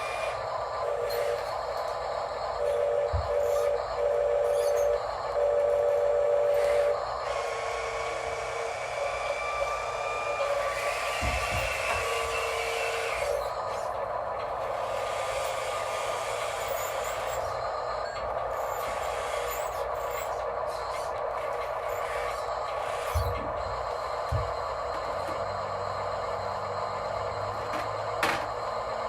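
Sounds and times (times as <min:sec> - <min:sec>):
electric whine of rc machinery: 0:00.0 - 0:29.0.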